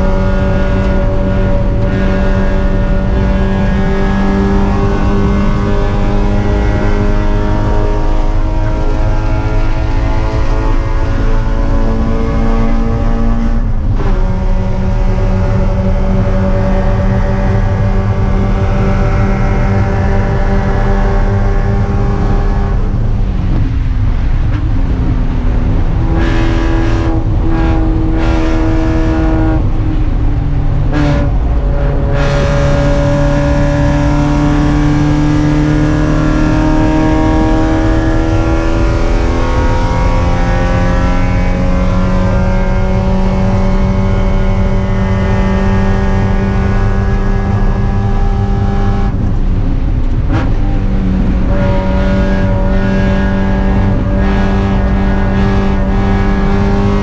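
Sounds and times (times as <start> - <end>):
race car engine at high revs: 0.0 - 57.0.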